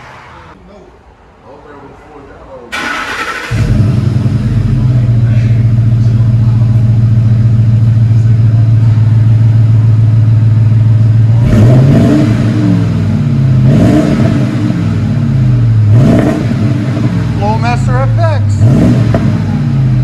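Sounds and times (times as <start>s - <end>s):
truck engine idling and revving: 2.7s - 20.0s.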